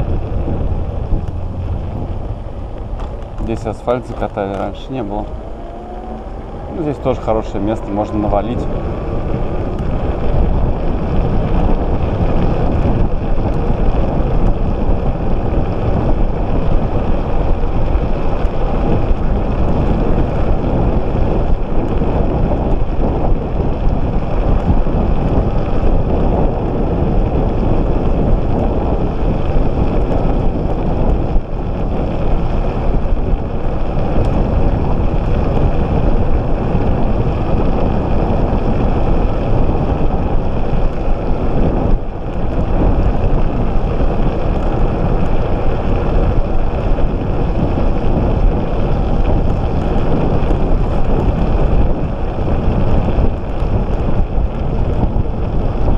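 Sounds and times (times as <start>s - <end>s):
scooter tyre and road rumble: 0.0s - 55.9s
wind buffeting microphone: 0.0s - 55.9s.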